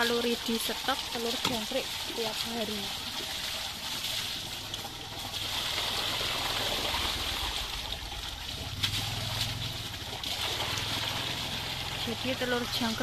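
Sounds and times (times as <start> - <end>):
water pouring into wet sand: 0.4 - 13.0.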